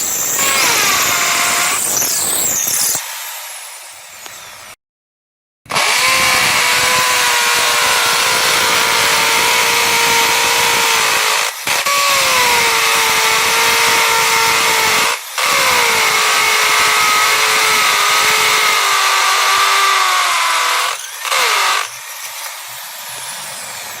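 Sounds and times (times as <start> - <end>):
electric drill whining: 0.0 - 4.8, 5.7 - 24.0.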